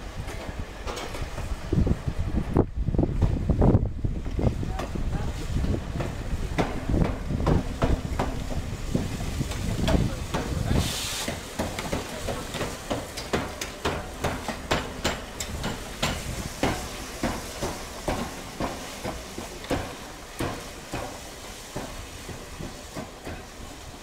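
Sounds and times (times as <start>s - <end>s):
steam locomotive chuffing: 3.2s - 24.0s.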